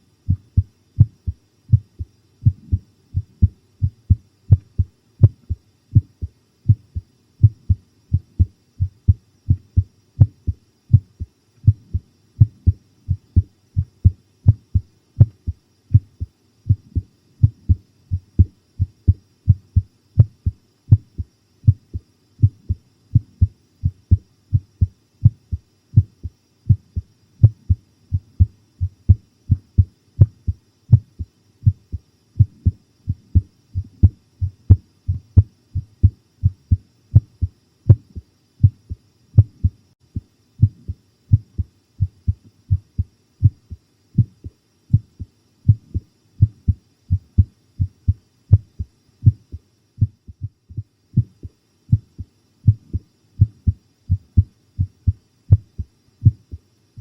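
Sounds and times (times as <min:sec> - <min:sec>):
heartbeat thumps: 0:00.3 - 0:56.6.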